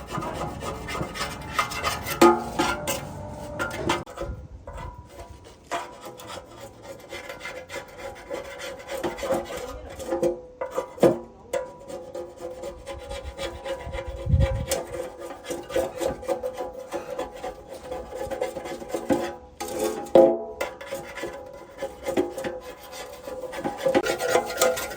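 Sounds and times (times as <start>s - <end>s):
hand tool rasping on metal: 0.0s - 24.9s.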